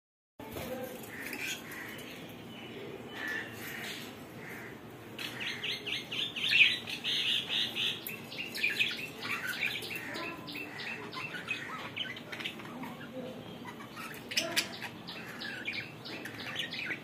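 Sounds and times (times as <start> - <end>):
budgerigars chirping: 3.2 - 17.0.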